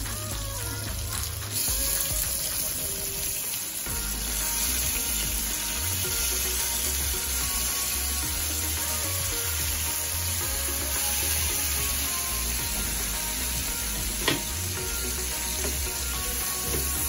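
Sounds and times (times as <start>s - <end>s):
prawns sizzling in hot oil: 0.0s - 17.0s.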